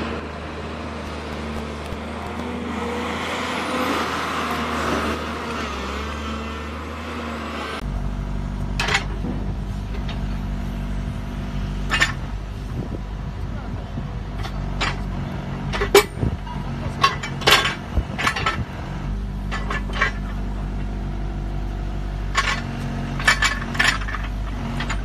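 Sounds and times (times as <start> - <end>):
excavator diesel engine running: 0.0 - 25.0
smaller excavator engine humming: 0.0 - 25.0.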